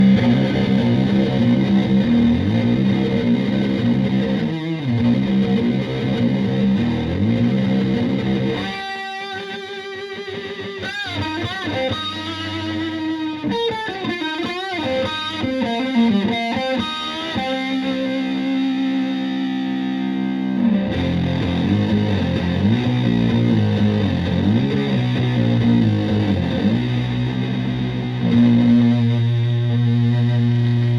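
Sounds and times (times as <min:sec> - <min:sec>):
fuzzed electric guitar: 0:00.0 - 0:30.9.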